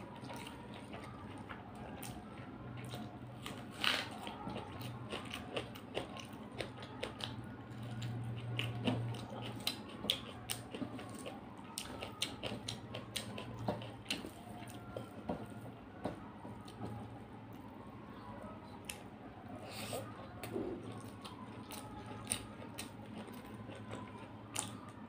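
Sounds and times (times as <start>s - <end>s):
faint low hum: 0.0s - 25.0s
wet chewing and smacking: 0.0s - 25.0s.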